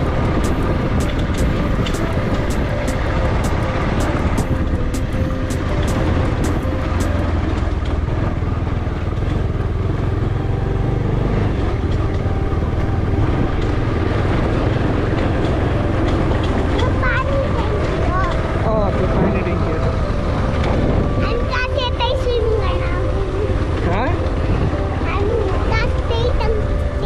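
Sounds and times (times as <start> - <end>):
motorcycle engine and road rumble: 0.0 - 27.0.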